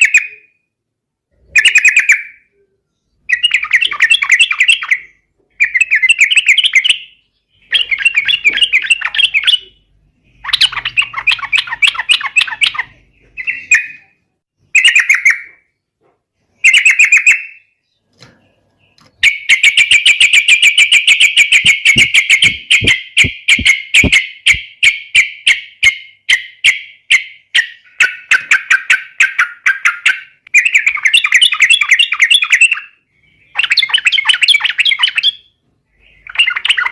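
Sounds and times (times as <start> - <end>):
bird singing bubbly phrases: 1.3 - 15.7, 16.6 - 25.0, 27.4 - 36.9.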